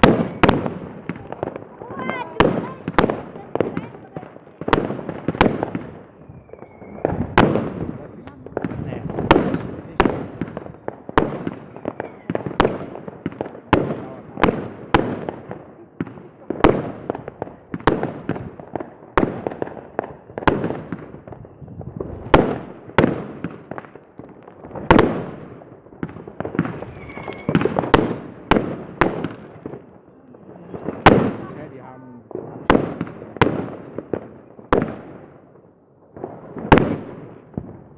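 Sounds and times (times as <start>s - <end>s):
fireworks bangs: 0.0s - 37.9s.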